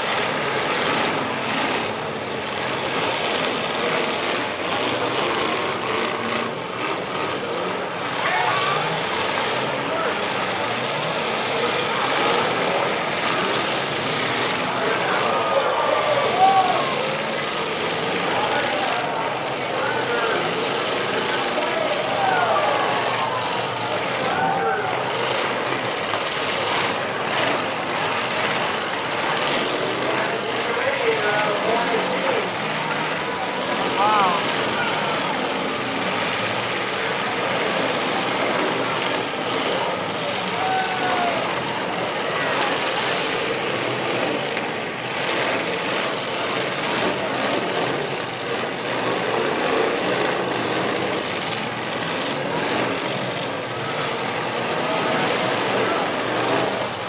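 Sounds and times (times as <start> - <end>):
car engines running loudly: 0.0 - 57.0.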